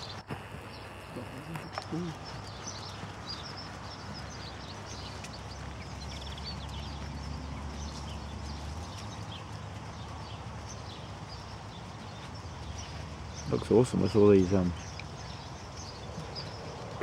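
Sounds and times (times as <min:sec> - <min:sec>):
horse hooves trotting on sand: 0:00.0 - 0:17.0
small birds chirping: 0:00.0 - 0:17.0.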